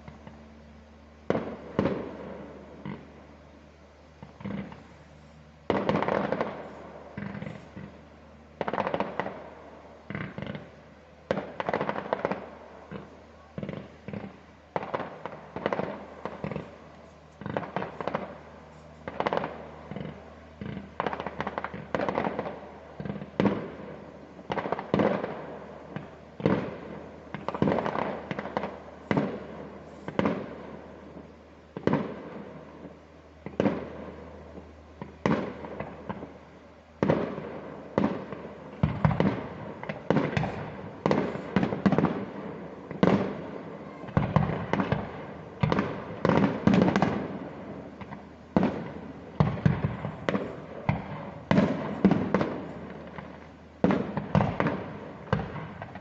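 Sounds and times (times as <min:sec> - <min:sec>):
fireworks bangs with echo: 0:01.2 - 0:03.4, 0:04.2 - 0:56.0.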